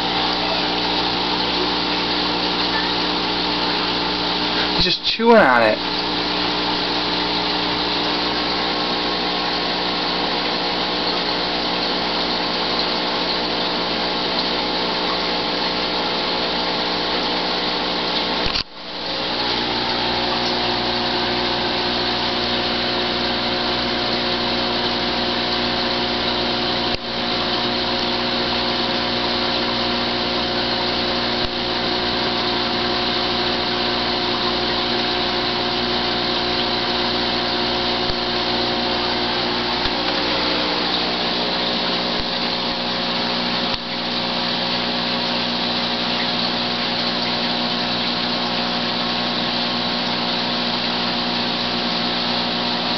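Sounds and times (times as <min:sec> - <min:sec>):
small motor humming: 0:00.0 - 0:04.8, 0:05.8 - 0:52.9.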